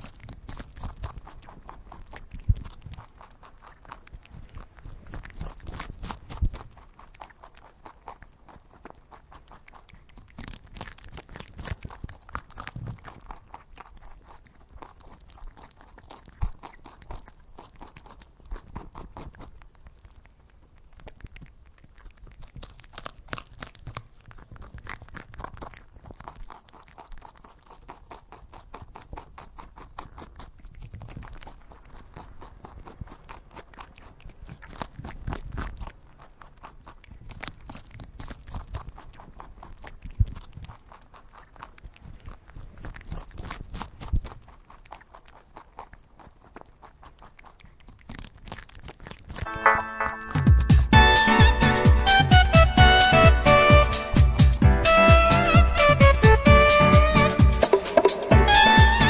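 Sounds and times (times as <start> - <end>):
animal chewing and crunching: 0.0 - 49.5, 50.8 - 59.0.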